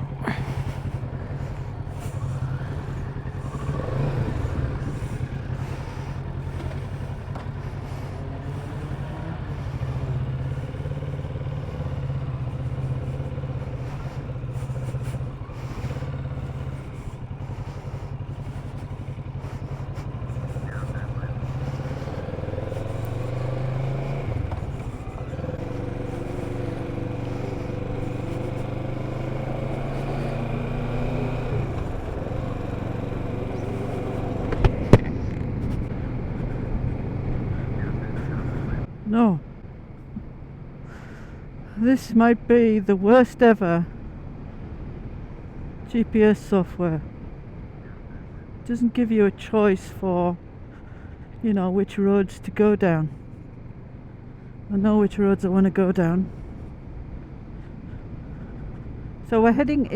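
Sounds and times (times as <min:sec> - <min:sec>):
motorcycle engine running: 0:00.0 - 0:41.8, 0:43.8 - 0:59.9.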